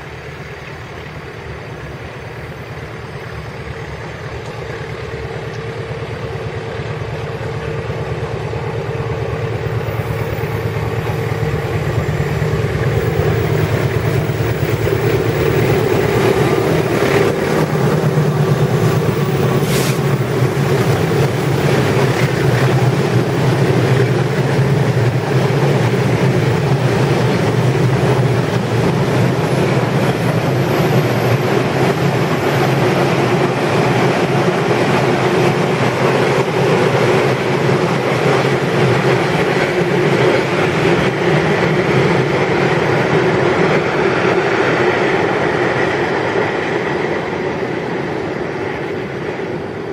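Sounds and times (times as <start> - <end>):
diesel locomotive: 0.0 - 49.9.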